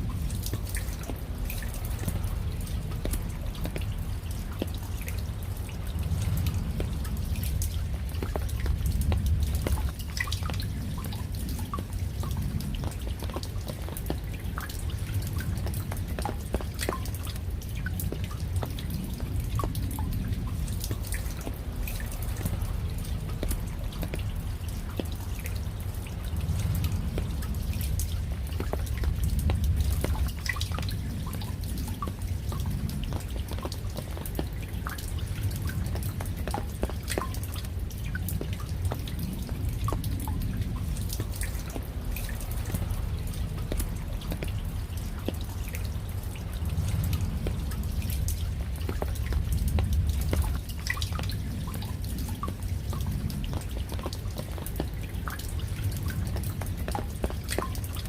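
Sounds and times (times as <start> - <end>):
low rumble: 0.0 - 16.4, 17.5 - 54.8
raindrops dripping: 0.0 - 58.0.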